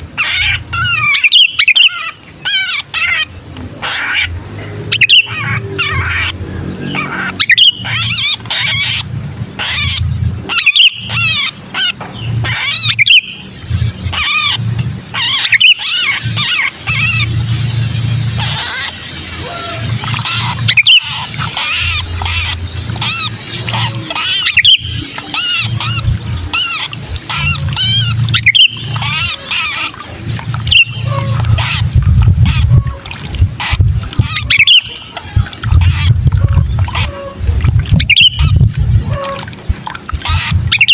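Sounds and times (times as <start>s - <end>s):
bulbuls calling loudly: 0.1s - 40.9s
low hum: 3.2s - 40.9s.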